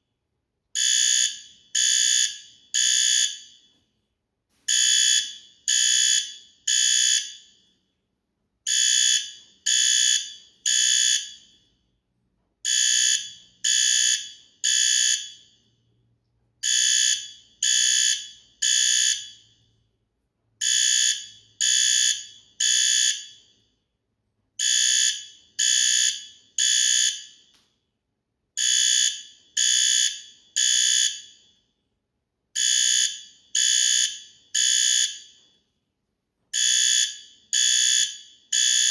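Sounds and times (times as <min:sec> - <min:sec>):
fire alarm beeps: 0:00.8 - 0:08.1, 0:08.7 - 0:11.9, 0:12.6 - 0:16.0, 0:16.6 - 0:20.0, 0:20.6 - 0:23.9, 0:24.6 - 0:27.8, 0:28.6 - 0:32.0, 0:32.6 - 0:35.8, 0:36.5 - 0:38.9.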